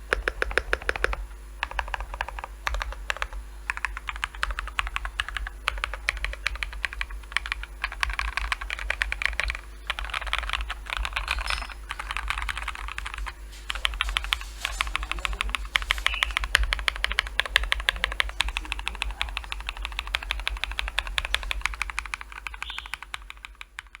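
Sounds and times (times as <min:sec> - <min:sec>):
mechanical keyboard typing: 0:00.1 - 0:24.0.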